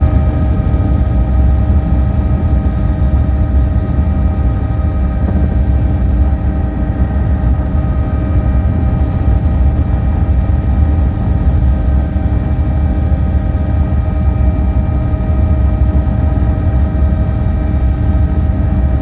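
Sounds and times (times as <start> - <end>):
helicopter rotor and engine drone: 0.0 - 19.0
thin high whine: 0.0 - 19.0
whining tones: 0.0 - 19.0.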